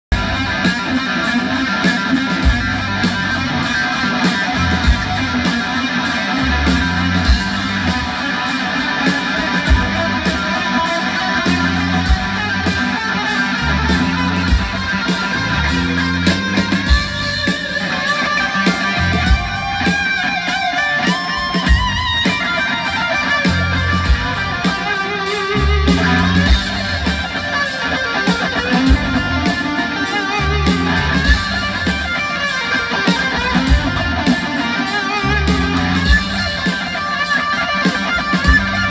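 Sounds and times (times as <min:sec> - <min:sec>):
bass guitar: 0:00.0 - 0:38.9
drums: 0:00.0 - 0:38.9
electric guitar: 0:00.0 - 0:38.9.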